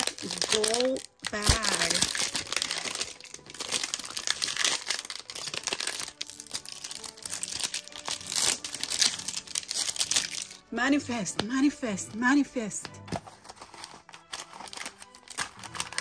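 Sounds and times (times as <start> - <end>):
plastic wrapping crinkling and tearing: 0.0 - 10.6, 13.1 - 16.0.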